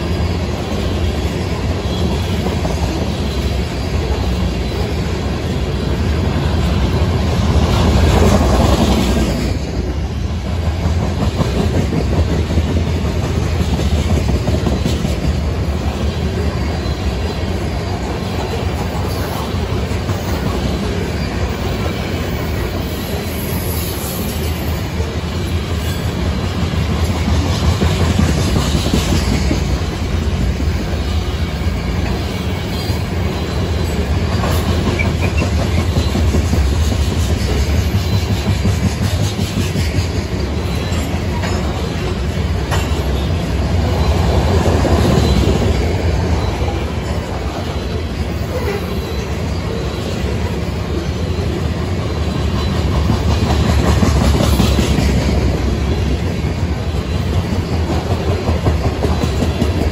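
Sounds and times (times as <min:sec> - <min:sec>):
freight train wheels clacking on rails: 0:00.0 - 0:59.9.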